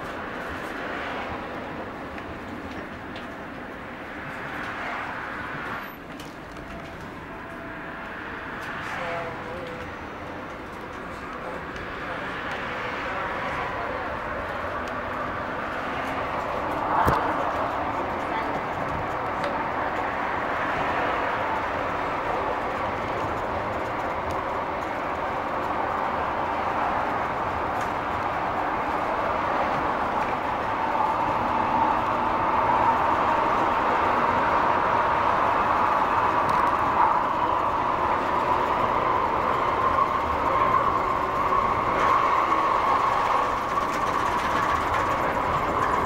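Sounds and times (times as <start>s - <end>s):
train rolling rumble: 0.0s - 46.0s
train whine: 0.0s - 46.0s.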